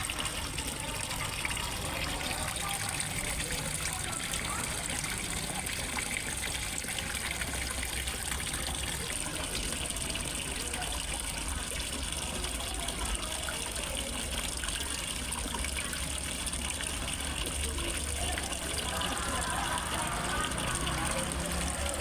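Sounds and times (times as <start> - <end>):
waterfall splashing into pond: 0.0 - 22.0.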